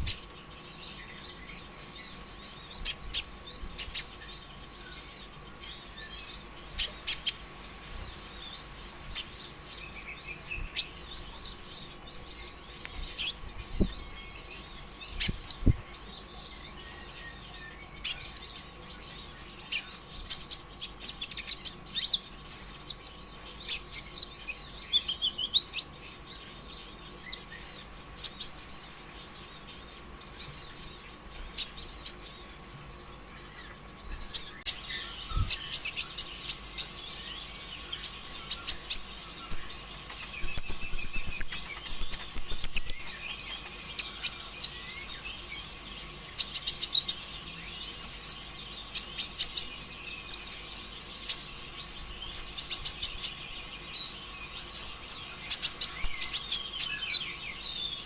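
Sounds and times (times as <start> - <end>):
bird singing chattering song: 0.0 - 58.0.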